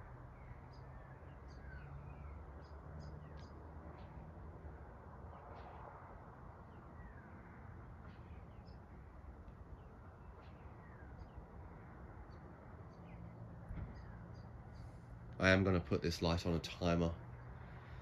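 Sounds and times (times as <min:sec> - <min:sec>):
birds chirping: 0:00.0 - 0:05.8, 0:06.6 - 0:18.0.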